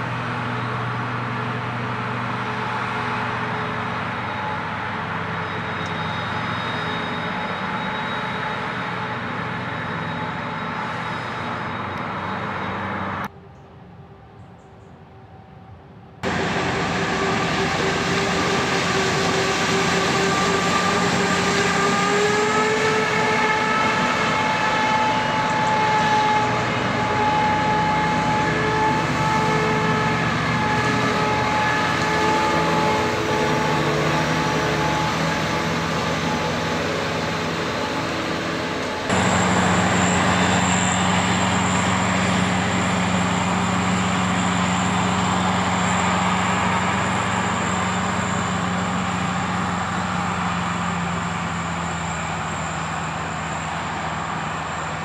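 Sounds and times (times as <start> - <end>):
different steady engine: 0.0 - 55.0
harvest machinery engine drone: 0.0 - 55.0.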